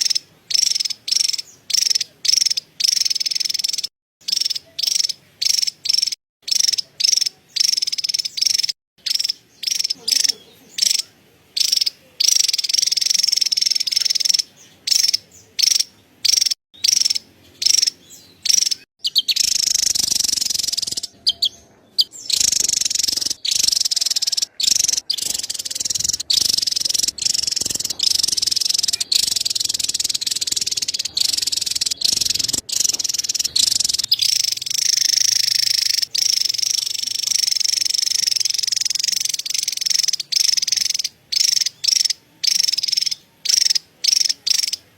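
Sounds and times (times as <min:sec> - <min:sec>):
bird high-pitched chattering call: 0:00.0 - 0:44.9.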